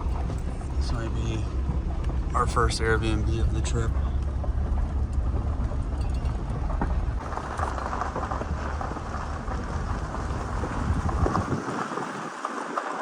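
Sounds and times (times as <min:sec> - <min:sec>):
low road rumble: 0:00.0 - 0:13.0
tyres crunching on gravel: 0:00.0 - 0:13.0.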